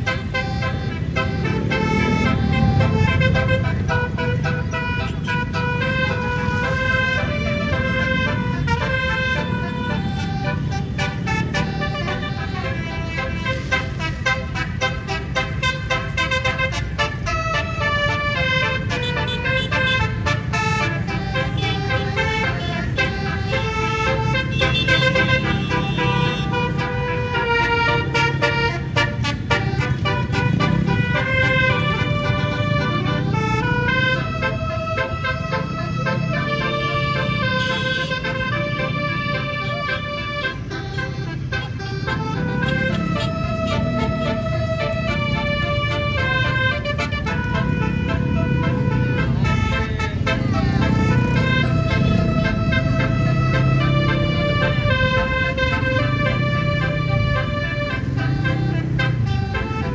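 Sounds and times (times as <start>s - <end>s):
low engine rumble: 0.0s - 59.9s
musical air horn playing tune: 0.0s - 59.9s.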